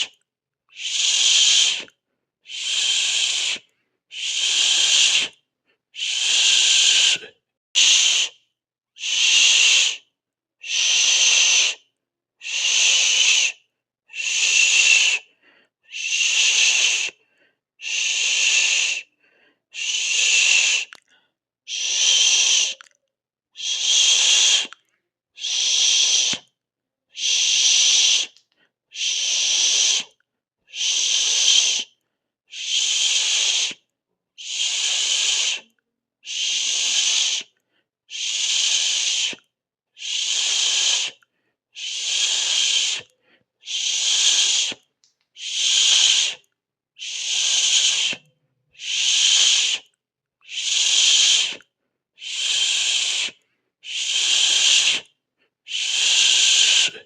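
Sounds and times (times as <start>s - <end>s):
person hissing through teeth: 0.0s - 5.4s, 6.0s - 8.4s, 9.0s - 17.2s, 17.8s - 19.1s, 19.7s - 21.0s, 21.7s - 22.9s, 23.6s - 24.8s, 25.4s - 41.2s, 41.8s - 55.1s, 55.7s - 57.0s.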